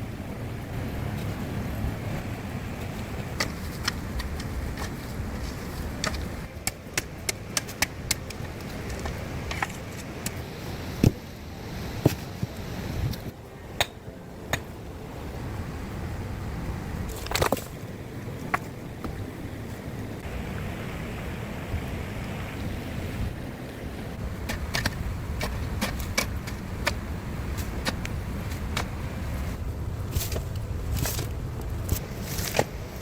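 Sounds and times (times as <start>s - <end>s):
low wind rumble: 0.0s - 33.0s.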